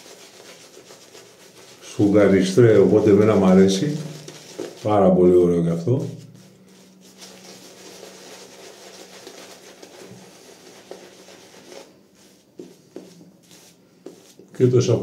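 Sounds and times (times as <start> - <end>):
shaving brush swishing through lather: 0.0 - 5.2, 5.9 - 14.6.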